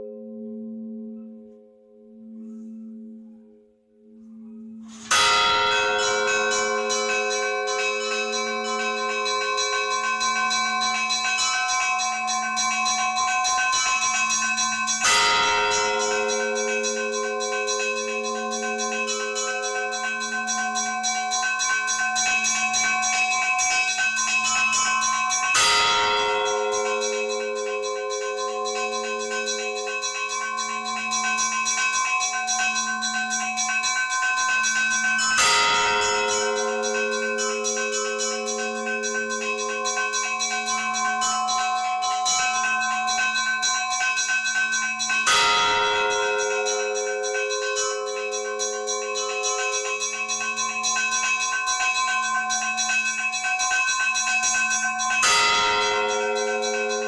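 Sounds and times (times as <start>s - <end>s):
low pulsing bell tone: 0.0s - 57.0s
heavy bell strokes: 4.3s - 52.6s
smaller bells ringing: 4.4s - 57.0s.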